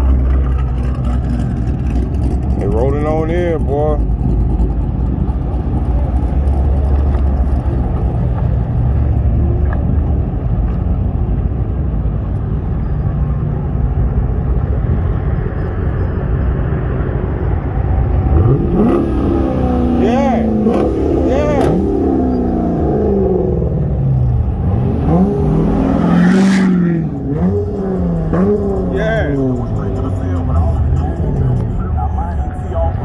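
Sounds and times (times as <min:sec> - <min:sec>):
car engine revving: 0:00.0 - 0:12.0, 0:13.6 - 0:33.0
car engines rumbling: 0:00.0 - 0:33.0.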